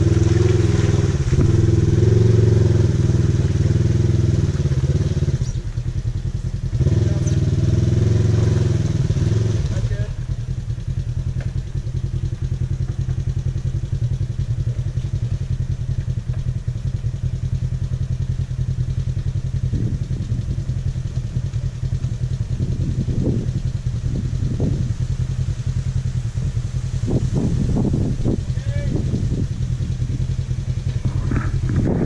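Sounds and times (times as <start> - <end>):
off-road vehicle engine running: 0.0 - 32.0.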